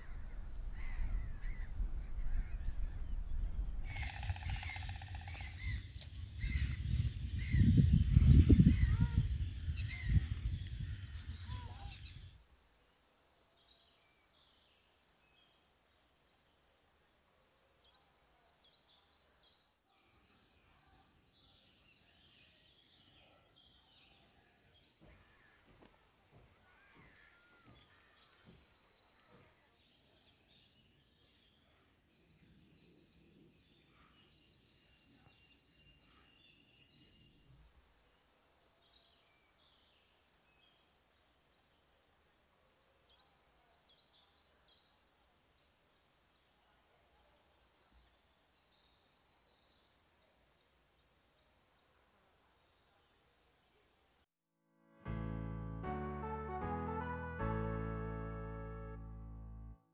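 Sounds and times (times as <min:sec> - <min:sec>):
small birds chirping: 0:00.0 - 0:12.8, 0:13.5 - 0:54.3.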